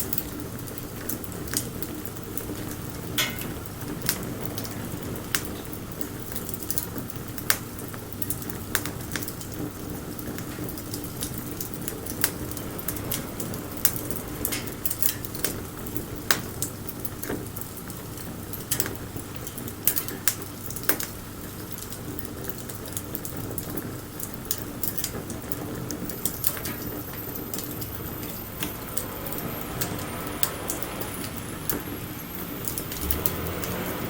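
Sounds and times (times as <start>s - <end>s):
bonfire crackling and popping: 0.0s - 34.0s.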